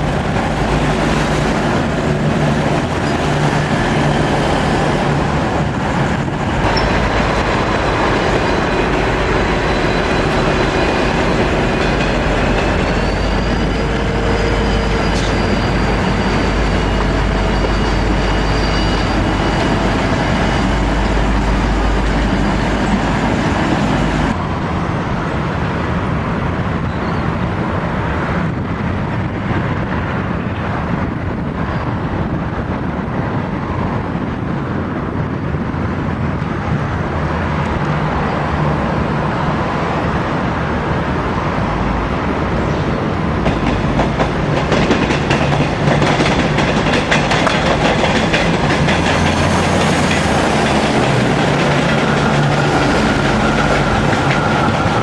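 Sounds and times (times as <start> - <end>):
diesel locomotive train approaching: 0.0 - 55.0
diesel railcar rumbling past: 0.0 - 55.0.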